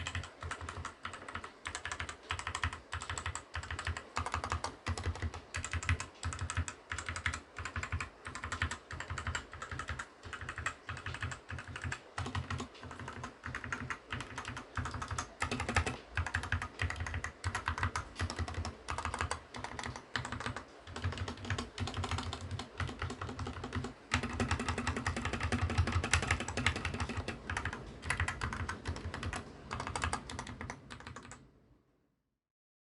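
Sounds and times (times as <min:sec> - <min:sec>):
fast mechanical keyboard typing: 0:00.0 - 0:31.4.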